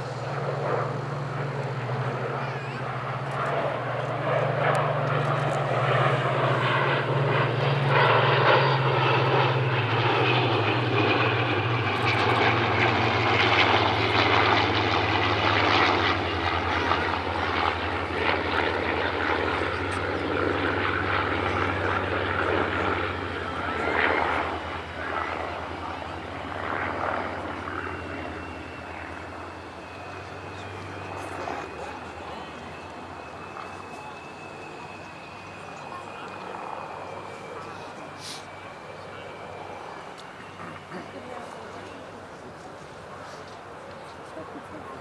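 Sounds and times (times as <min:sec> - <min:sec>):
propeller planes droning past: 0:00.0 - 0:45.0.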